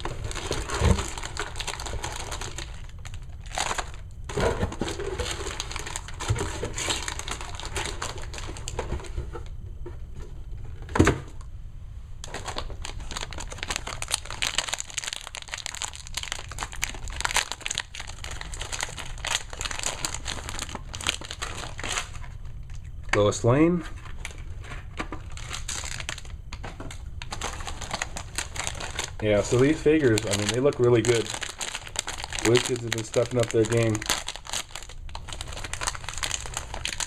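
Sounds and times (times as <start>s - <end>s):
foil wrappers crinkling: 0.0s - 9.2s, 12.2s - 37.0s.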